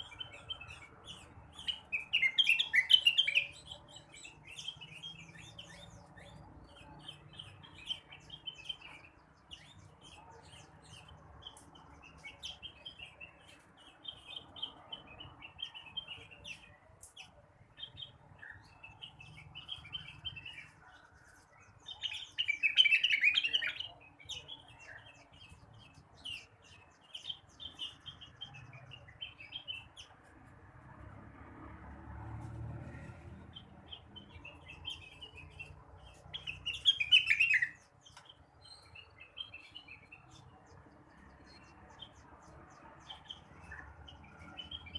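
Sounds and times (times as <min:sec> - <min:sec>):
bird chirping and twittering: 0:00.0 - 0:44.9.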